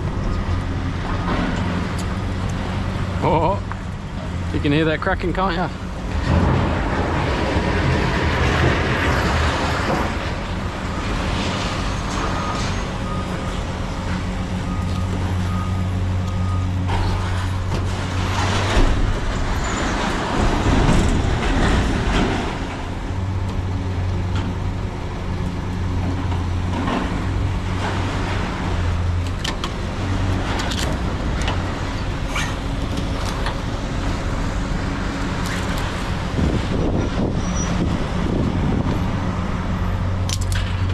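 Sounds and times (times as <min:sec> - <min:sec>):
road noise: 0:00.0 - 0:40.9
vehicle engine hum: 0:00.0 - 0:40.9.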